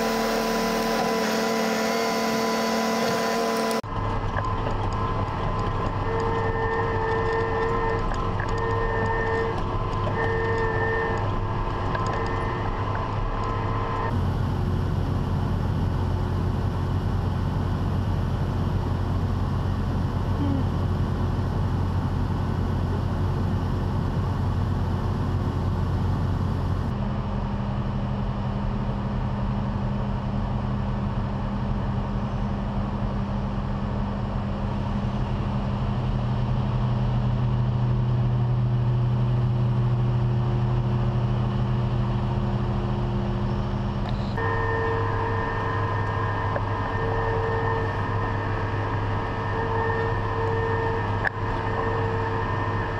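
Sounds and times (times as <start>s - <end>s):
harvest machinery running: 0.0s - 27.9s, 33.6s - 52.9s.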